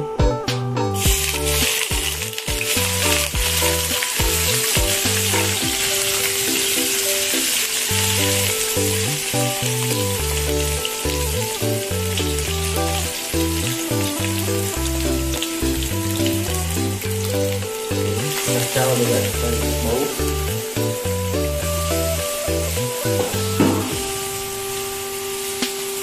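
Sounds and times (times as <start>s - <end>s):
background music: 0.0s - 26.0s
food sizzling in hot oil: 0.9s - 26.0s.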